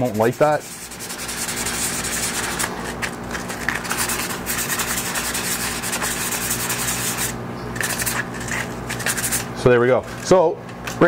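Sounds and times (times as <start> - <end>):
sandpaper rubbing on plastic edge: 0.0 - 9.5.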